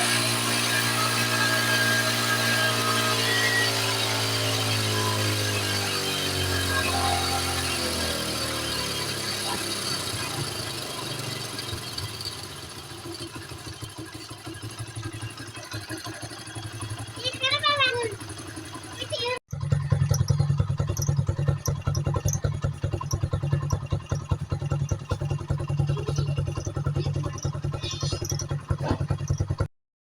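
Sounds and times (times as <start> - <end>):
small motorcycle engine idling: 0.0 - 29.7.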